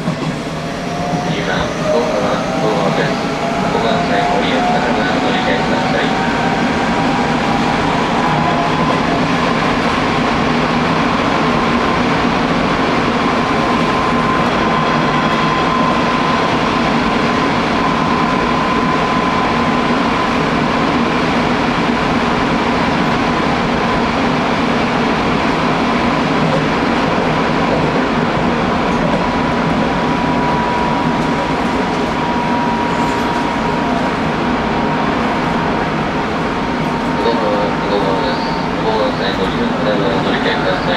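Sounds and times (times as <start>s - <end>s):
train rolling on rails: 0.0s - 40.9s.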